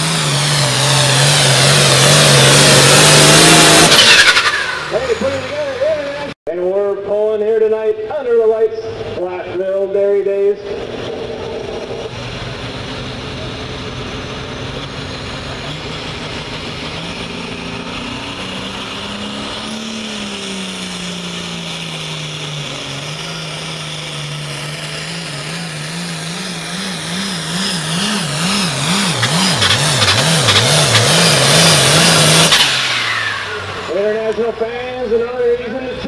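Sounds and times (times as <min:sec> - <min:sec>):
tractor diesel engine pulling hard: 0:00.0 - 0:36.0.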